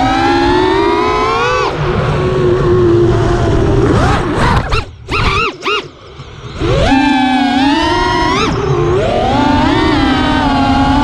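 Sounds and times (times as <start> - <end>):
drone motors whining: 0.0 - 11.0
low wind rumble: 0.0 - 11.0.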